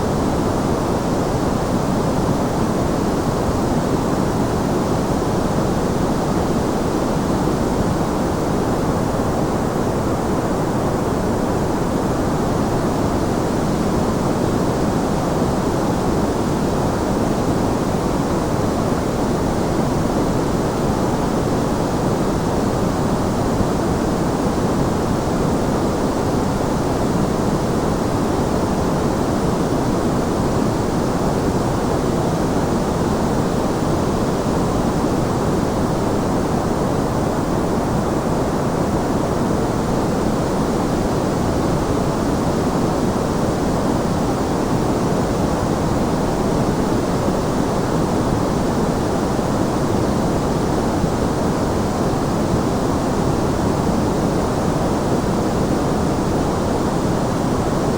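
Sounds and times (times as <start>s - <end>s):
steady white noise hiss: 0.0s - 57.9s.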